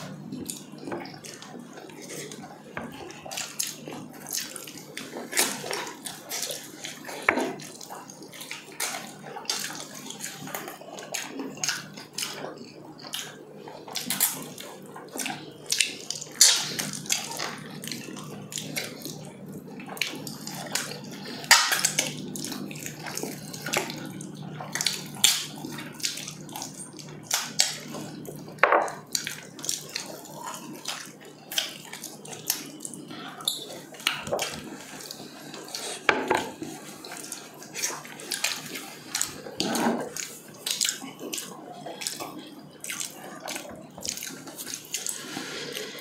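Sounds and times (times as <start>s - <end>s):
wet chewing and lip-smacking: 0.0s - 46.0s.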